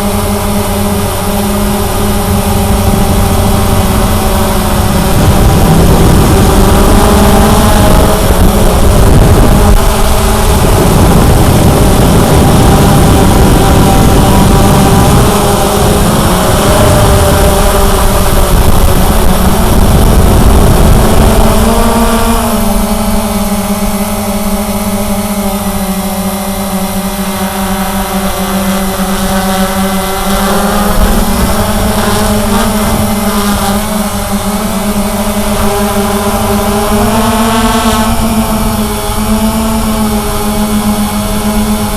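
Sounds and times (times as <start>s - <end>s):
low rumbling noise: 0.0s - 41.9s
quadcopter motors whirring: 0.0s - 41.9s.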